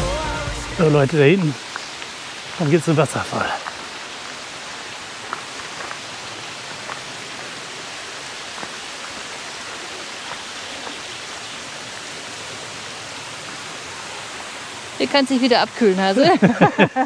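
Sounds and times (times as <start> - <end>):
stream and waterfall rushing: 0.0 - 17.0.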